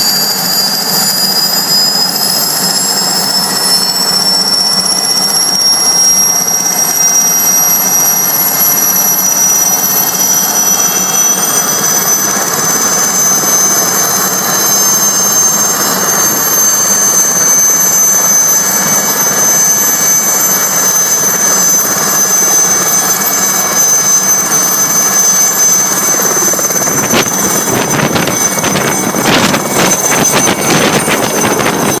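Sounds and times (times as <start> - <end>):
helicopter turbine whine: 0.0 - 32.0
rotor and engine roar: 0.0 - 32.0.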